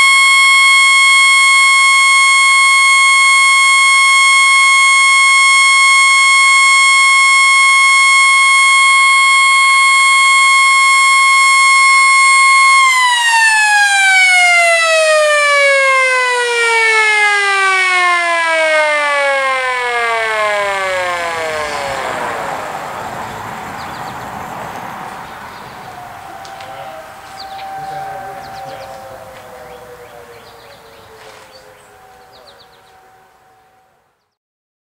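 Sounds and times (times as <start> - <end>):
siren winding down: 0.0 - 34.0.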